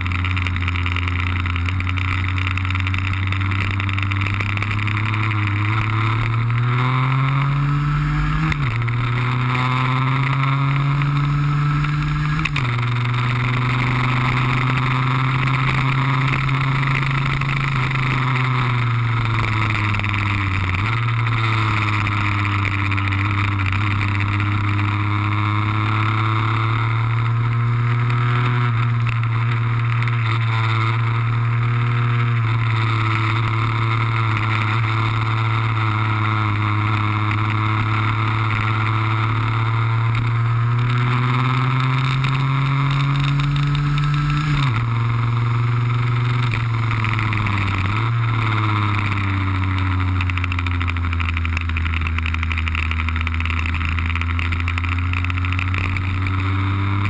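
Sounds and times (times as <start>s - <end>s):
two-stroke scooter engine: 0.0s - 57.0s.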